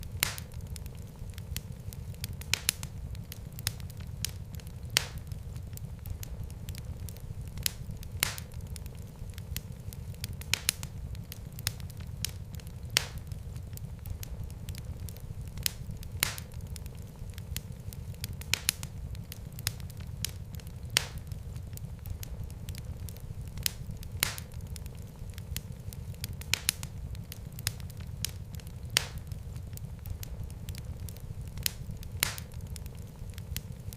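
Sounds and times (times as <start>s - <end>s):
wood fire crackling in fireplace: 0.0s - 33.9s.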